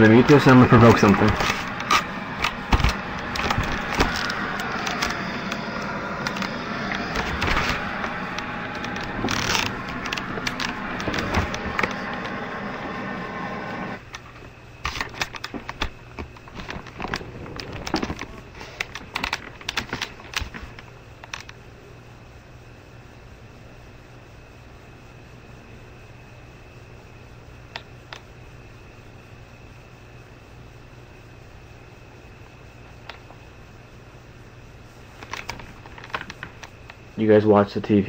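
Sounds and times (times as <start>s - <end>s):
television static hiss: 0.0s - 38.0s.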